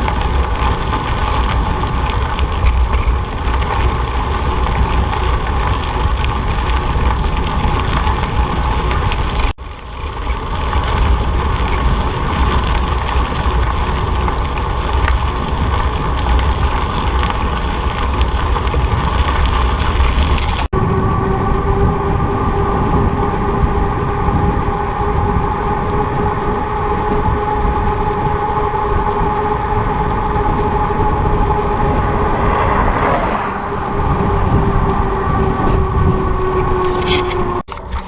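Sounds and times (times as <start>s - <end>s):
road and traffic noise: 0.0s - 38.0s
steady droning tone: 0.0s - 38.0s
wind rumbling on microphone: 0.0s - 38.0s.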